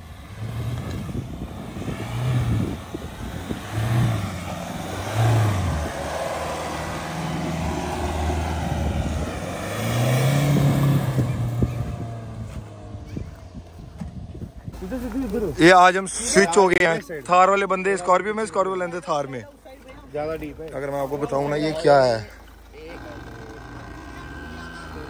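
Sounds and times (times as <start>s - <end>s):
diesel engine revving: 0.0s - 19.3s, 20.1s - 25.0s.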